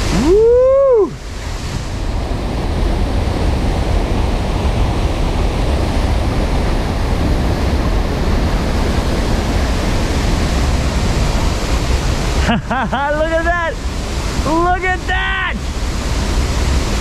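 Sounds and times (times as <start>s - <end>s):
deep rumble of water: 0.0s - 14.7s, 15.4s - 17.0s
waterfall rushing: 0.0s - 17.0s.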